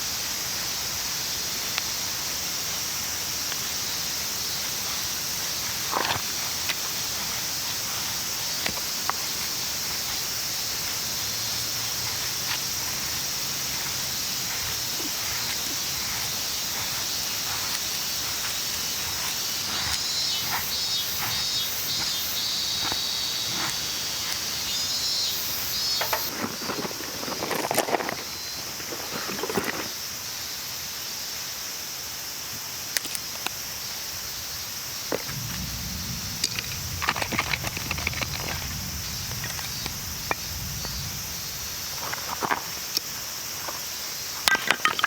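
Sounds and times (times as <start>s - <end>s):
insects chorus: 0.0s - 45.0s
rustling: 3.5s - 30.0s, 35.3s - 45.0s.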